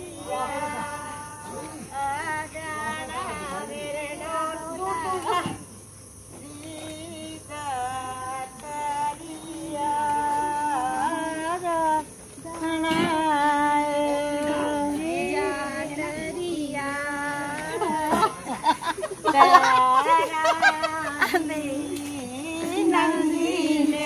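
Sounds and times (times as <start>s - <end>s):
women singing: 0.0s - 24.0s.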